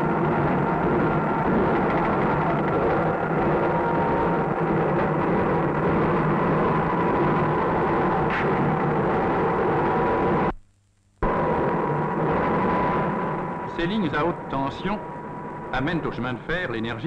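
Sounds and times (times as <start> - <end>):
dense rumbling roar: 0.0 - 10.5, 11.2 - 17.0.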